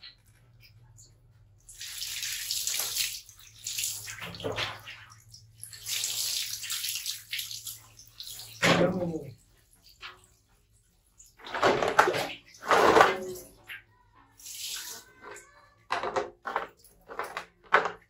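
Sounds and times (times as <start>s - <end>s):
water splashing on tiled floor: 0.0s - 15.5s.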